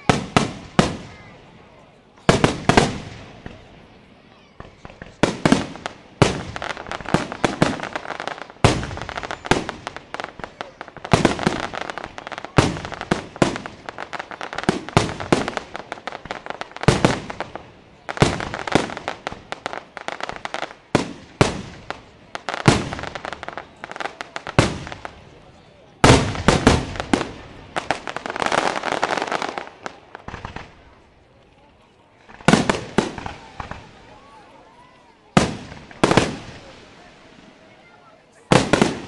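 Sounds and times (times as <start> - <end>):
firework bangs: 0.0 - 1.6, 2.2 - 3.9, 4.6 - 31.2, 32.2 - 34.5, 35.3 - 39.0
firework crackling: 0.0 - 39.0.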